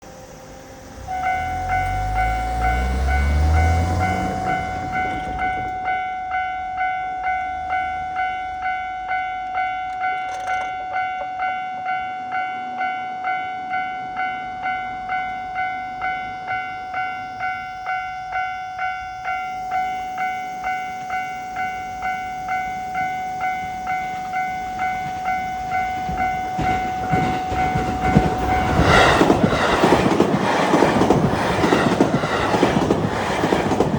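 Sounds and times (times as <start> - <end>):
steady warning tone: 0.0 - 11.5, 13.2 - 33.9
electric train rumble: 0.0 - 33.9.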